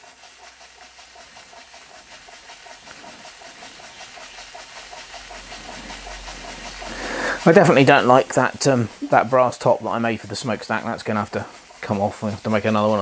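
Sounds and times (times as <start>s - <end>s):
toy steam engine hissing and puffing: 0.0s - 13.0s.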